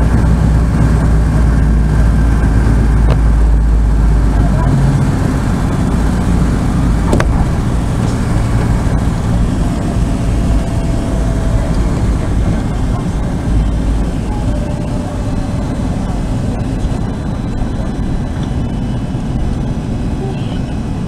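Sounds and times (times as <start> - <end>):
propeller engines rumbling: 0.0 - 21.0.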